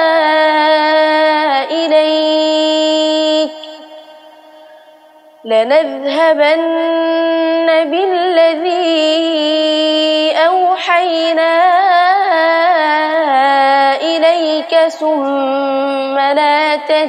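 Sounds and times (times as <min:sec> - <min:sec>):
person reciting melodically: 0:00.0 - 0:04.0, 0:05.5 - 0:17.0.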